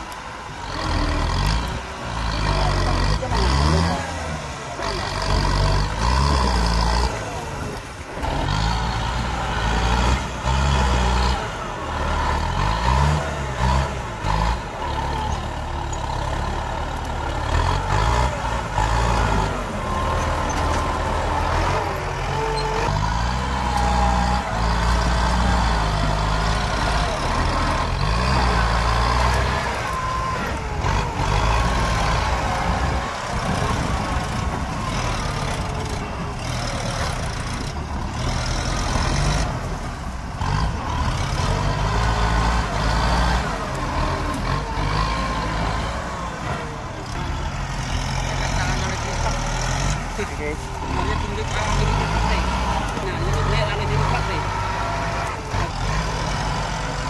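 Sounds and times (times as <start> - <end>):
tractor engines working under load: 0.0 - 57.0.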